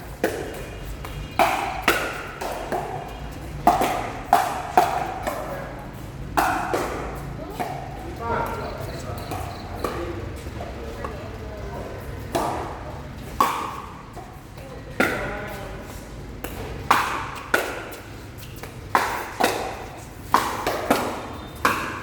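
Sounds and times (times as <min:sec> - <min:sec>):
paddles striking pickleball: 0:00.1 - 0:11.3, 0:12.2 - 0:22.0.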